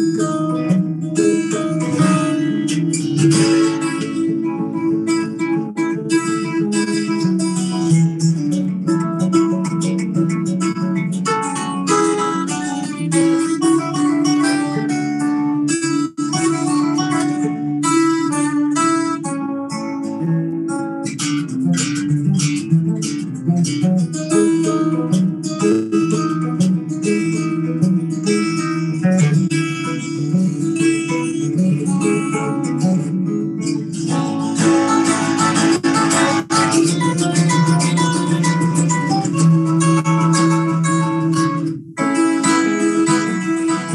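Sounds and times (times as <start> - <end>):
bass: 0.0 - 42.0
guitar plucked and strummed: 0.0 - 43.9.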